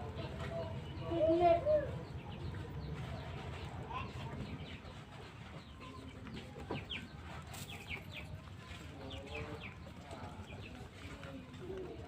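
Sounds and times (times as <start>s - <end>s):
birds chirping: 0.0s - 12.0s
low clucking bird calls: 0.0s - 12.0s.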